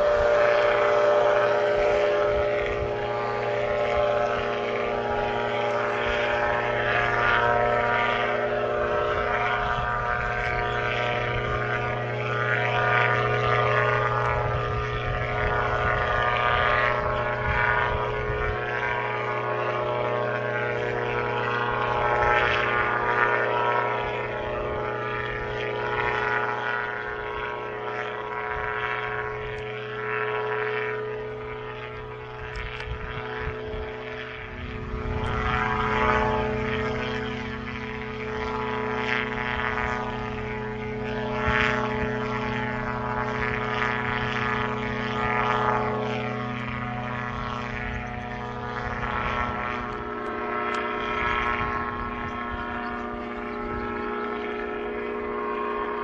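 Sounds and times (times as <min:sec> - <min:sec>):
engine and propeller droning: 0:00.0 - 0:56.0.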